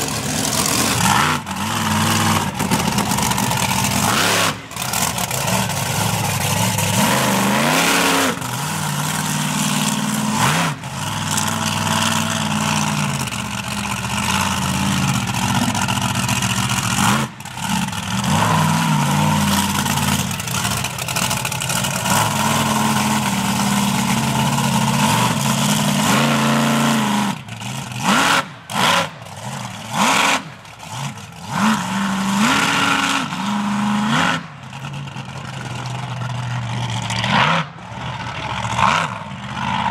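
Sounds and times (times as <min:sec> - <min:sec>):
monster truck engine revving: 0:00.0 - 0:39.9.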